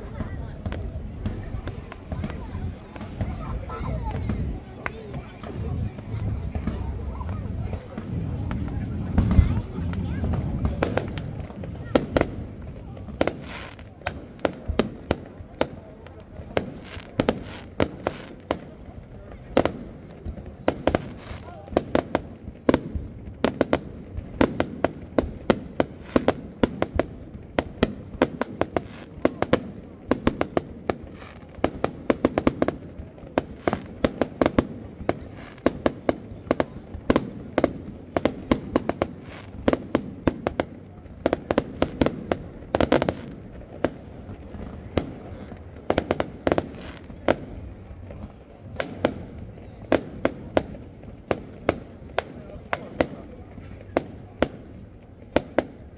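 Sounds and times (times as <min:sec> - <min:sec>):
fireworks bangs and cracks: 0:00.0 - 0:55.9
fireworks crackling: 0:00.0 - 0:55.9.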